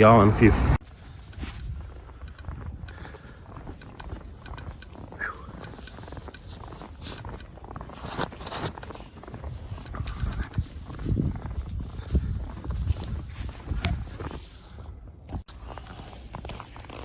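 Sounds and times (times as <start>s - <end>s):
wind rumbling on microphone: 0.0s - 17.0s
microphone handling noise: 0.8s - 14.6s
winter clothing rustling: 0.8s - 17.0s.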